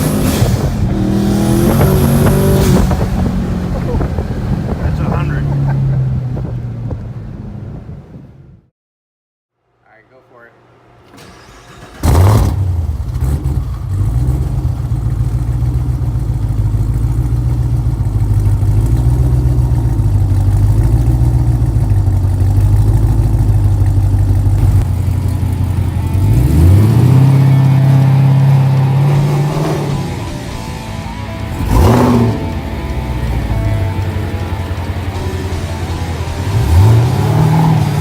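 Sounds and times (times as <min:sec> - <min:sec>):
engine revving: 0:00.0 - 0:06.8, 0:11.6 - 0:38.0
car engine starting and idling: 0:00.0 - 0:08.6, 0:10.8 - 0:38.0.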